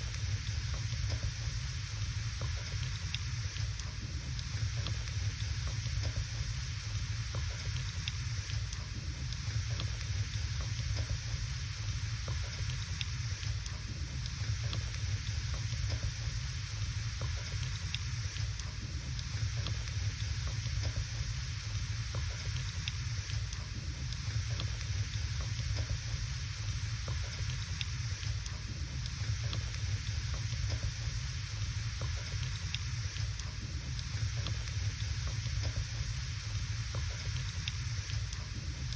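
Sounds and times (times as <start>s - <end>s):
wood fire burning: 0.1s - 38.9s.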